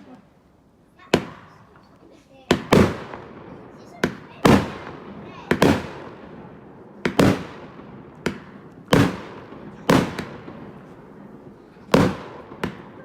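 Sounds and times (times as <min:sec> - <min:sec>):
firework bangs: 0:01.0 - 0:13.0.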